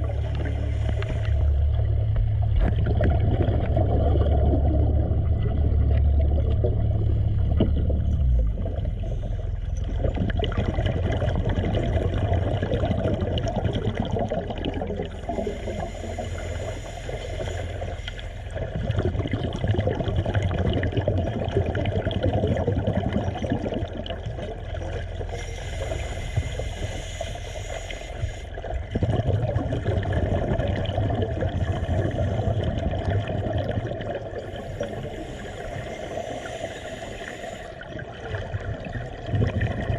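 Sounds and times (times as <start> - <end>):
deep rumble: 0.0 - 39.9
water sloshing and gurgling: 0.0 - 39.9.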